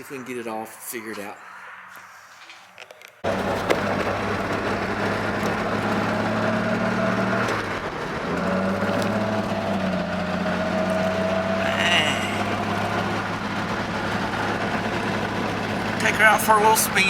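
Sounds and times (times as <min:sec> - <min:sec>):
engine droning: 0:03.2 - 0:17.0.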